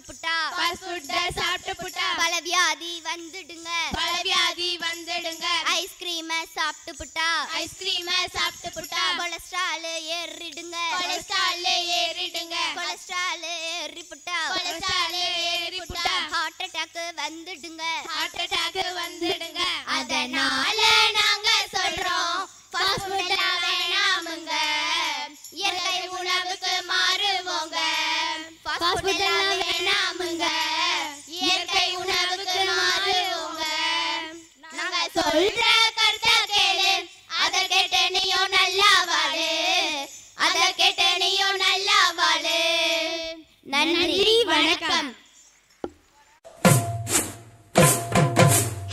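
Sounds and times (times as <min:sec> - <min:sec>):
girls singing together: 0:00.1 - 0:43.5.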